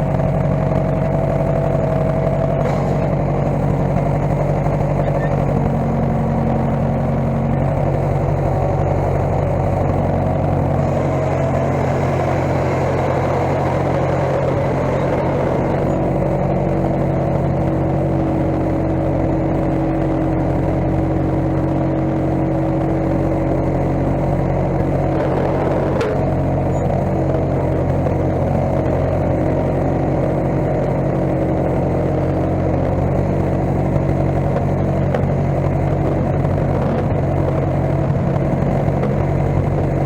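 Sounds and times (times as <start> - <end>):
skid steer engine running: 0.0 - 40.0.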